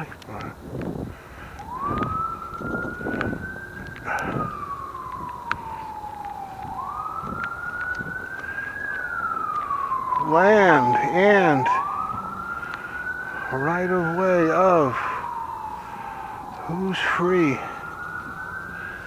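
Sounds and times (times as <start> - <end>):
emergency siren wailing: 0.0 - 19.0.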